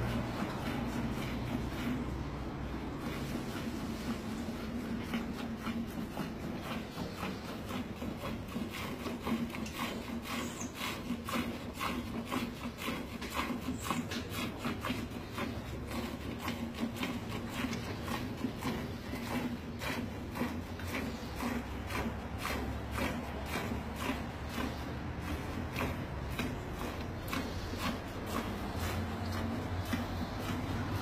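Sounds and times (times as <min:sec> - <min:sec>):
milk squirting into metal pail: 0:00.0 - 0:31.0
steady low hum: 0:00.0 - 0:31.0.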